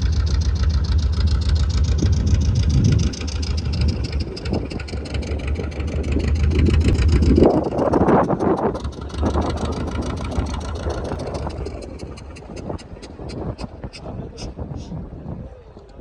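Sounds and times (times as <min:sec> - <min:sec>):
motorboat engine pulsing: 0:00.0 - 0:14.5
rush of noise: 0:01.4 - 0:15.3.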